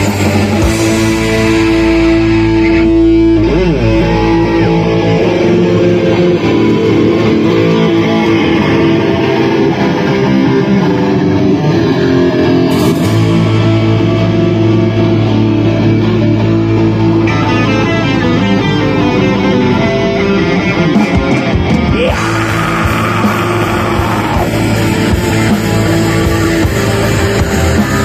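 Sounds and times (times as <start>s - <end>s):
heavy low bass note: 0.0s - 9.3s, 12.7s - 20.5s, 21.8s - 28.0s
distorted electric guitar chords: 0.0s - 28.0s.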